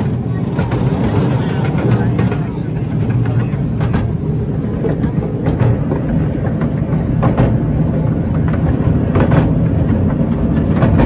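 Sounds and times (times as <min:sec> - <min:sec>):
miniature steam train rumbling: 0:00.0 - 0:11.0
wheels clicking on rails: 0:00.0 - 0:11.0.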